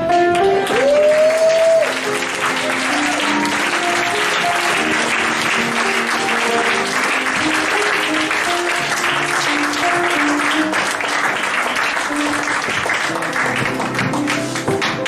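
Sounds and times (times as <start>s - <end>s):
audience applauding: 0.3s - 15.0s.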